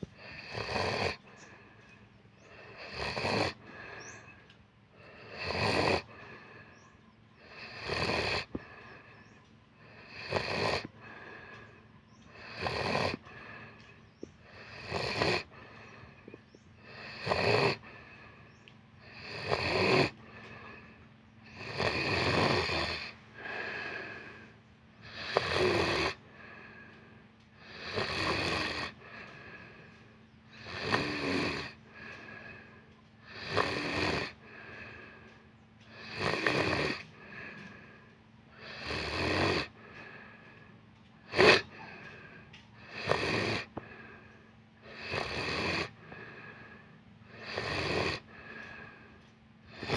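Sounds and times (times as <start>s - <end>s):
person snoring loudly: 0.0s - 1.7s, 2.4s - 40.6s, 41.2s - 49.9s.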